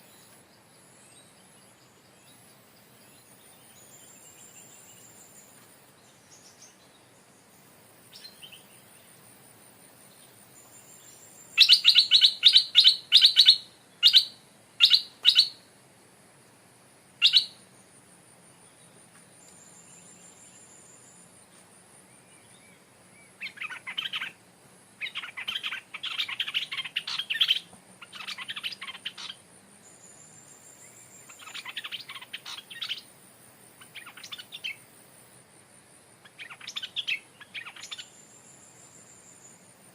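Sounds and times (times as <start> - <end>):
bird singing: 0.0 - 15.7, 17.2 - 18.0, 18.6 - 24.4, 25.0 - 33.1, 33.8 - 34.9, 36.2 - 39.9
insect buzz: 0.0 - 39.9.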